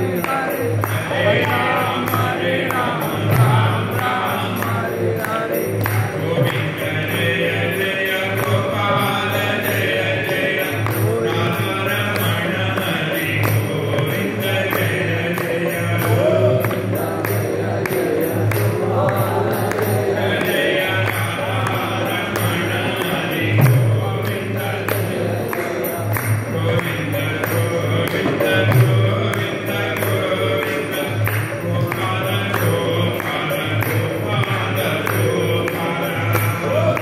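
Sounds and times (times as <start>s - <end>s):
men chanting: 0.0s - 37.0s.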